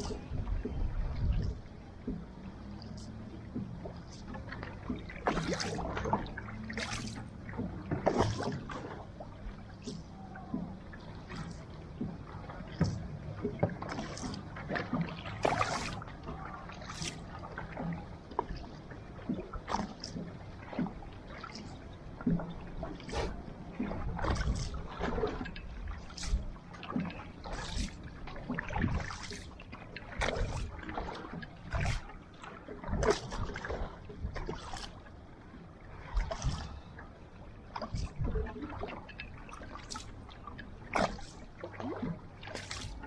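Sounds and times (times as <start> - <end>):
paddle strokes splashing: 0.0 - 43.0
water rushing past hull: 0.0 - 43.0.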